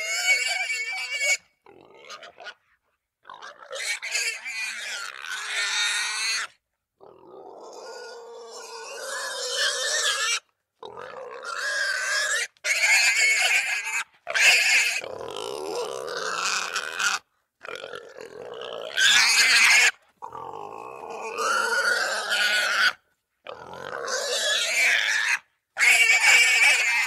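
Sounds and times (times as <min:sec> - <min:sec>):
boar grunting and squealing: 0:00.0 - 0:27.0.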